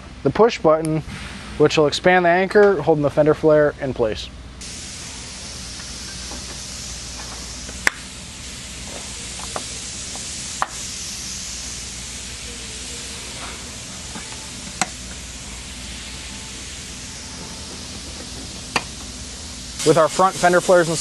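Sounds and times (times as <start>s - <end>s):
steady hiss: 0.3s - 21.0s.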